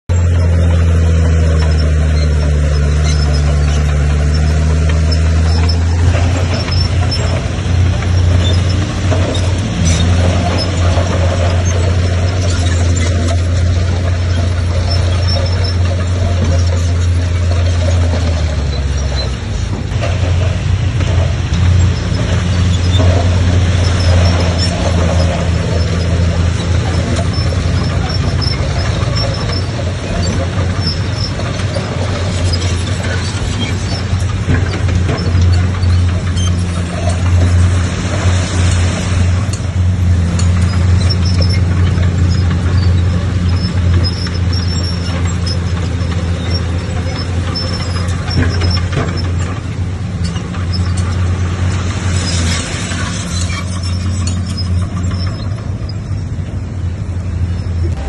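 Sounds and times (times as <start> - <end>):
diesel earthmoving machinery: 0.0 - 58.0.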